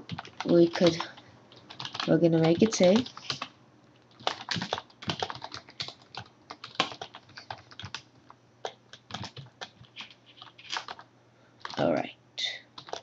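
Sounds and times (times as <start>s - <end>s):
keyboard typing clicks: 0.0s - 3.5s, 4.1s - 11.8s, 12.8s - 13.0s.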